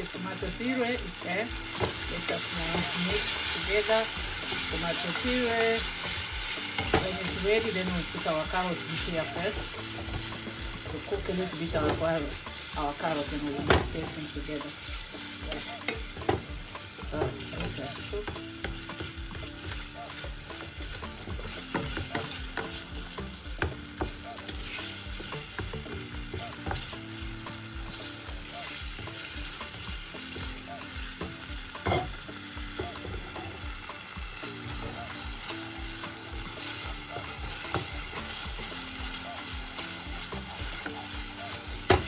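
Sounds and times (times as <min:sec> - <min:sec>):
tomato puree sizzling: 0:00.0 - 0:42.0.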